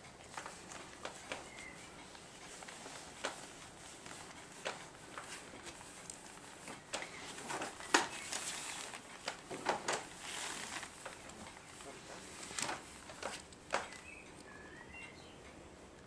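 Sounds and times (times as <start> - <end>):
newspaper crinkling and rustling: 0.1 - 14.4.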